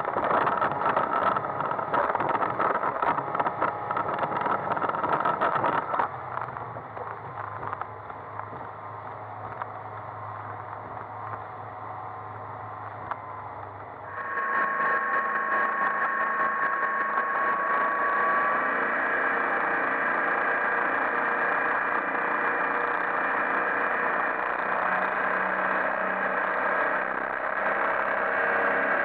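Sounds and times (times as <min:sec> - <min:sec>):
boat engine running: 0:00.0 - 0:29.0
high whine: 0:00.0 - 0:29.0.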